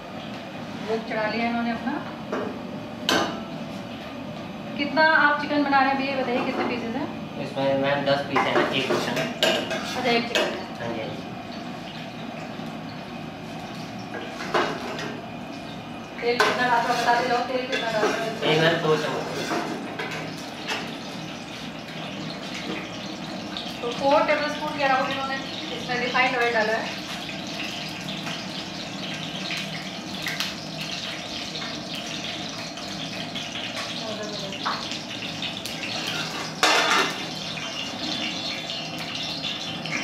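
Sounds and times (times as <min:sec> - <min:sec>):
rushing kitchen background noise: 0:00.0 - 0:40.0.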